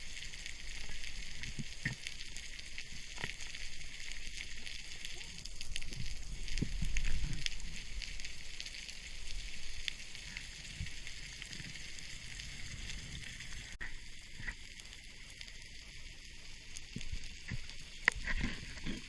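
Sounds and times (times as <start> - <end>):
underwater crackle of clicks: 0.0 - 19.0.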